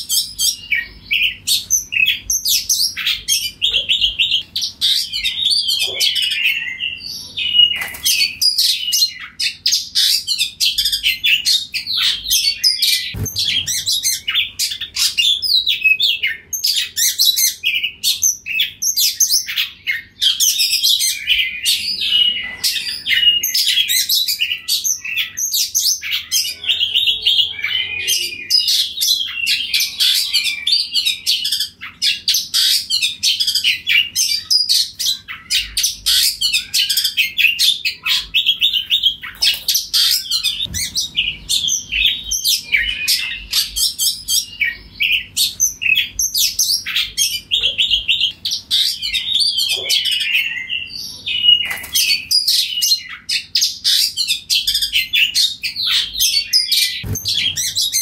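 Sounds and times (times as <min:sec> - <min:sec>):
bird singing whistles and trills: 0:00.0 - 0:58.0.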